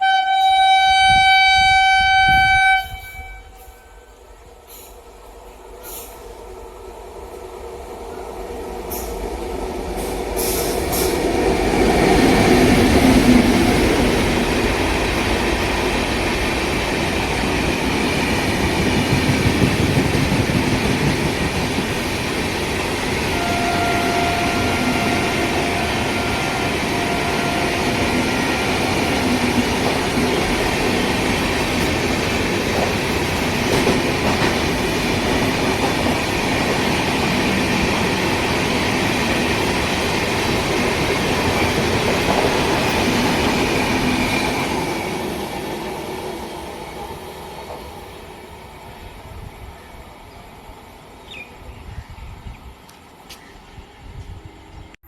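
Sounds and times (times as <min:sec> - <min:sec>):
train wheels on rails: 0:00.0 - 0:51.6.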